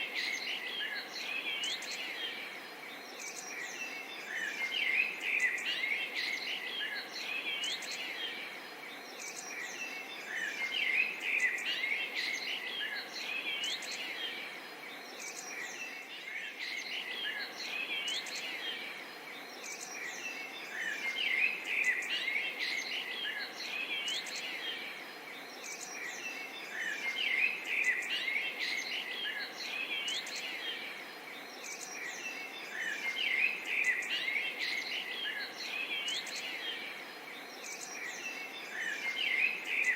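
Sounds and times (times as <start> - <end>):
background hiss: 0.0 - 39.9
birds chirping and trilling: 0.0 - 39.9.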